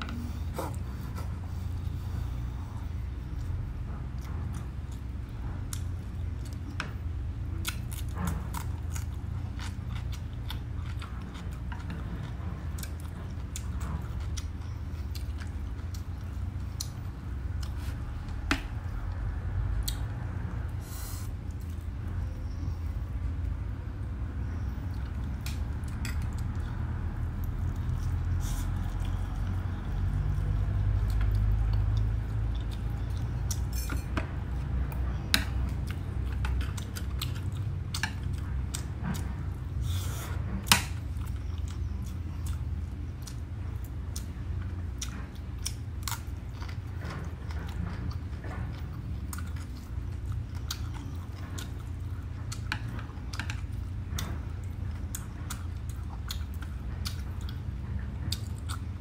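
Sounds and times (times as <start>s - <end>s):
steady low hum: 0.0s - 59.0s
chewing and crunching: 0.1s - 20.8s, 24.0s - 59.0s.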